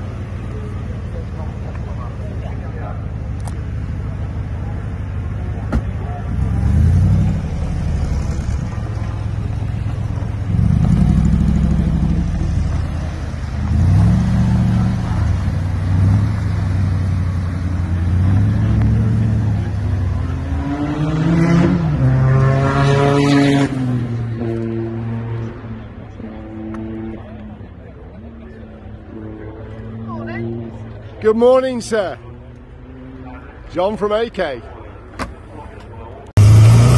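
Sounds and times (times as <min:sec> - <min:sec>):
car engine revving: 0:00.0 - 0:31.2, 0:36.4 - 0:36.9.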